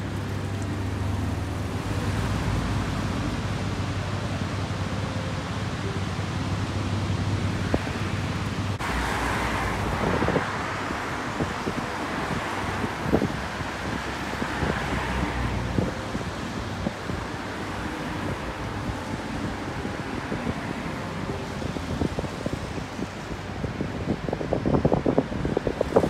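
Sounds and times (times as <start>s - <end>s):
road traffic hum: 0.0s - 26.0s
wind rushing over microphone: 0.0s - 26.0s.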